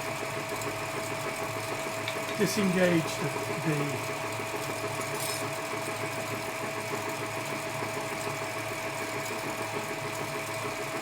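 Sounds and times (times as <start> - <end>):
lathe running with whine: 0.0 - 11.0.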